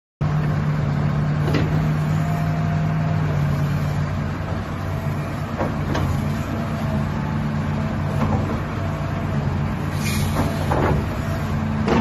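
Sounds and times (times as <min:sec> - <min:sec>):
excavator diesel engine running: 0:00.2 - 0:12.0.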